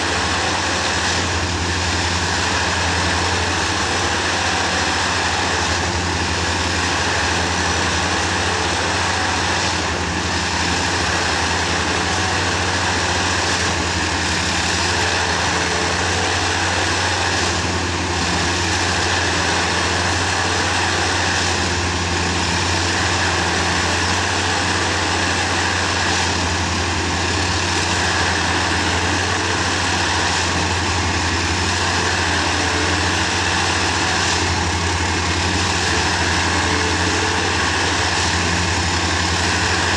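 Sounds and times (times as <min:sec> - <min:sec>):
heavy machine engine droning: 0:00.0 - 0:39.9.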